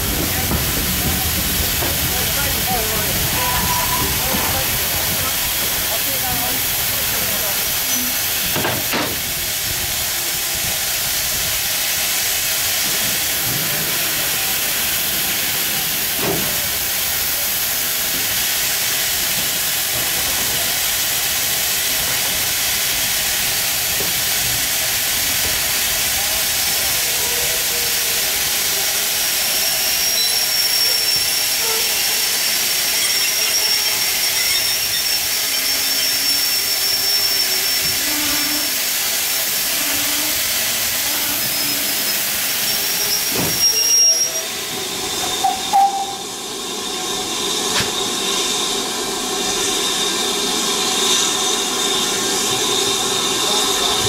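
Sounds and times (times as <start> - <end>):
train coaches rolling past: 0.0 - 54.0.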